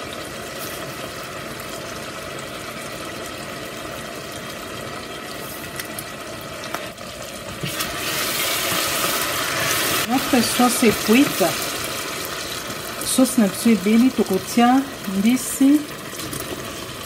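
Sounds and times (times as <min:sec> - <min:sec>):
sauce bubbling and sizzling: 0:00.0 - 0:17.0.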